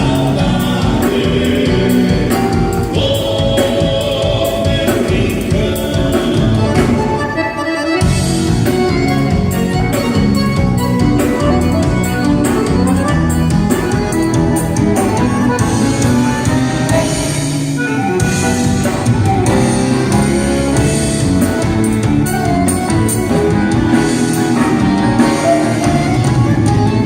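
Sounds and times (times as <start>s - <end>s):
band playing instrumental music: 0.0s - 27.0s.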